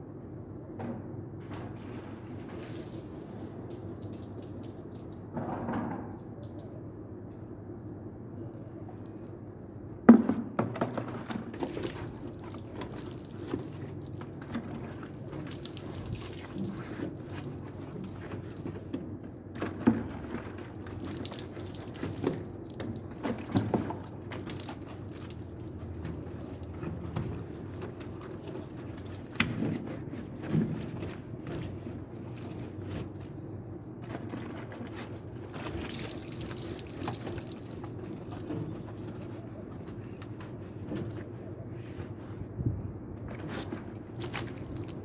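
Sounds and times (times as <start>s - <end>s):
water dripping and splashing: 2.3s - 42.2s, 42.8s - 45.0s.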